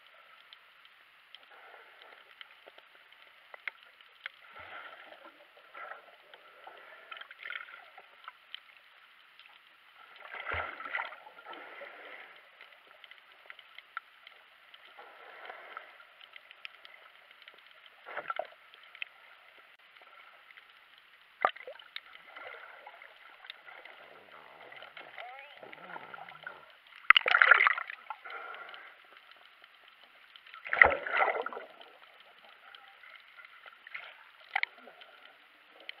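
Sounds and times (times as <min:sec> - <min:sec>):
underwater bubbles and gurgling: 0:00.0 - 0:36.0.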